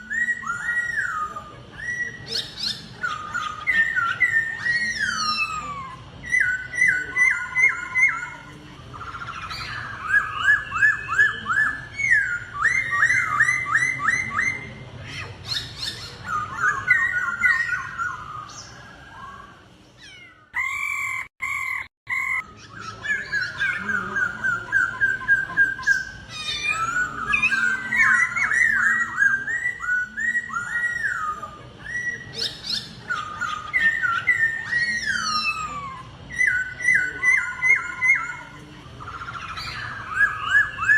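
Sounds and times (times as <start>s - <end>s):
bird singing whistled phrases: 0.0s - 14.8s, 15.5s - 19.5s, 20.6s - 40.9s.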